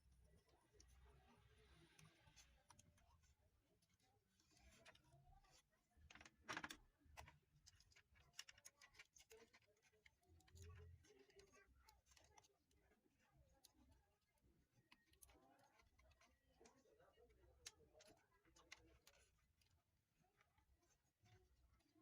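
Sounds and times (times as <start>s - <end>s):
faint clicks and ticks: 0.0s - 22.0s.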